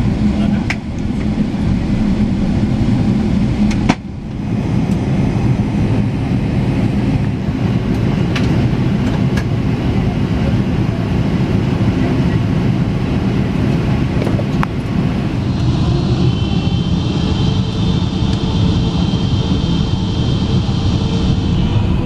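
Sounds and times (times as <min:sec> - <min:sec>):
airplane rolling rumble: 0:00.0 - 0:22.0
high engine whine: 0:00.0 - 0:22.0.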